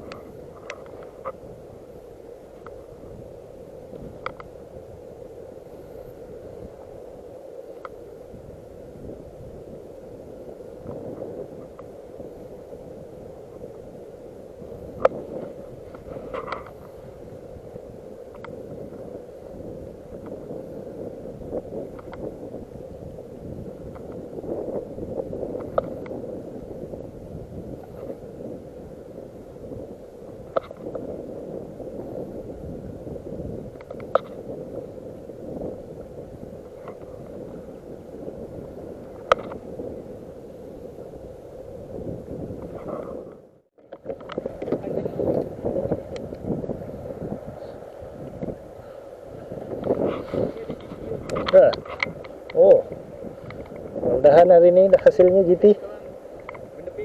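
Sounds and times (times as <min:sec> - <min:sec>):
water gurgling around a kayak: 0:00.0 - 0:43.4, 0:44.0 - 0:54.2
wind on microphone: 0:00.0 - 0:57.0.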